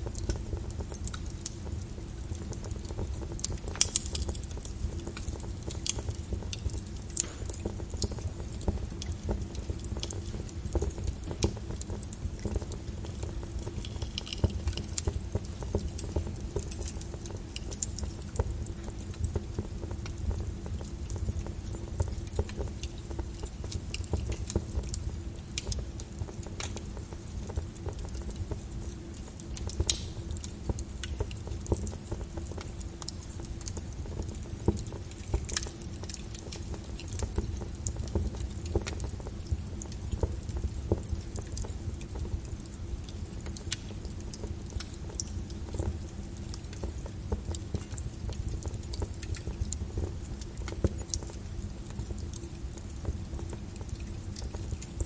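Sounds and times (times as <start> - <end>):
low rumble of burning logs: 0.0 - 55.0
wood fire crackling: 0.0 - 55.0.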